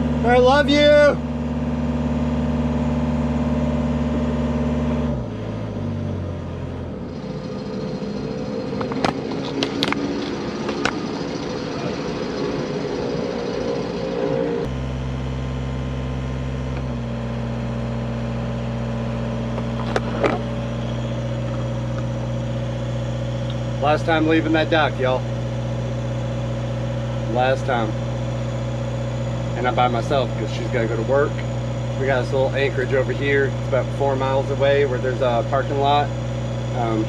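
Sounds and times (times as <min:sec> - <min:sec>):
boat engine running: 0:00.0 - 0:37.0.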